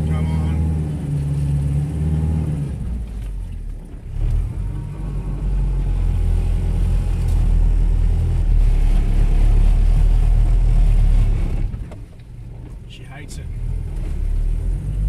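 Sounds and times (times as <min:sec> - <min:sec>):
truck engine working hard: 0:00.0 - 0:15.0.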